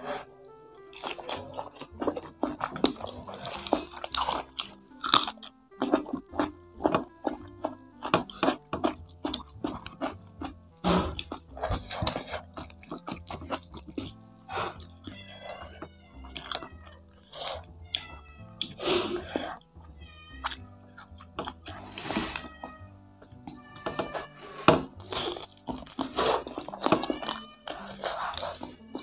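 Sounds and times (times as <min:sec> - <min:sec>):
crunchy chewing: 0:00.0 - 0:19.7, 0:20.4 - 0:29.0
soft background music: 0:00.0 - 0:29.0.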